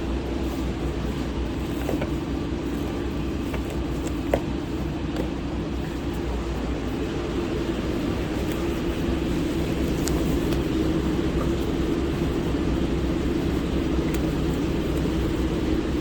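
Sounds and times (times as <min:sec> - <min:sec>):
kitchen machinery drone: 0:00.0 - 0:16.0.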